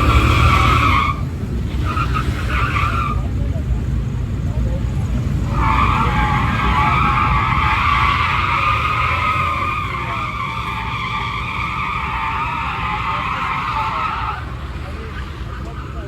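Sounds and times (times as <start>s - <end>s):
low engine rumble: 0.0s - 16.0s
truck tyres squealing: 0.0s - 16.0s.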